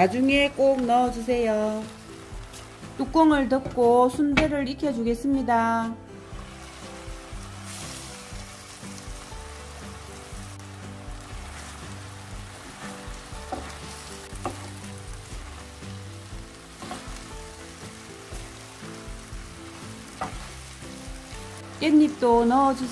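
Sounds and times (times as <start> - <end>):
food sizzling in a frying pan: 0.0 - 22.9.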